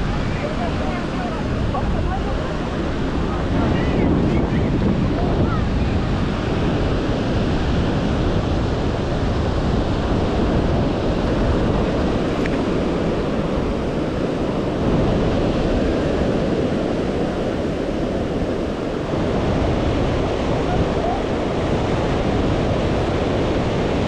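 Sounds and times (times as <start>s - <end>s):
ocean surf washing on beach: 0.0s - 24.0s
wind noise on microphone: 0.0s - 24.0s.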